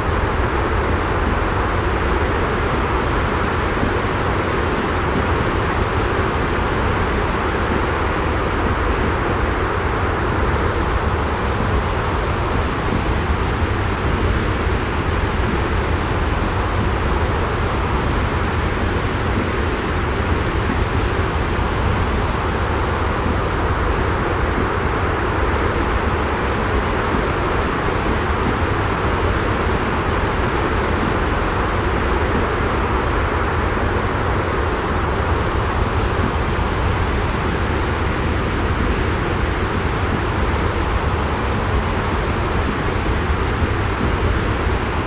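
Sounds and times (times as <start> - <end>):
white noise with low rumble: 0.0 - 45.0.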